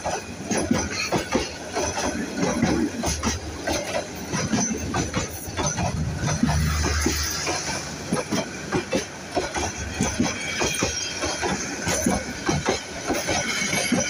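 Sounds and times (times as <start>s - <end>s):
low train rumble: 0.0s - 14.0s
train wheel knocks and clatter: 0.0s - 14.0s.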